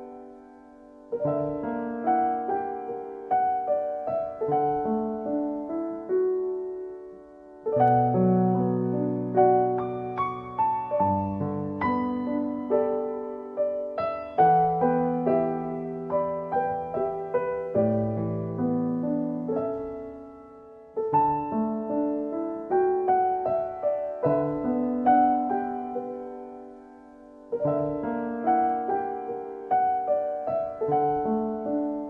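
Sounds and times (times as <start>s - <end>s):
soft piano music: 0.0s - 32.0s.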